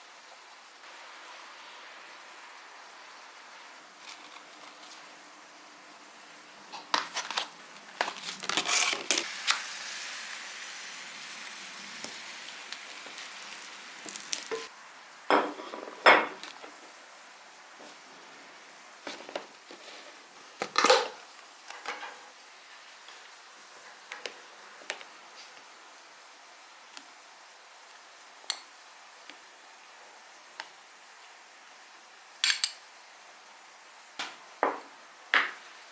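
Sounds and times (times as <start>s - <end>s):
soft steady hiss: 0.0s - 35.9s.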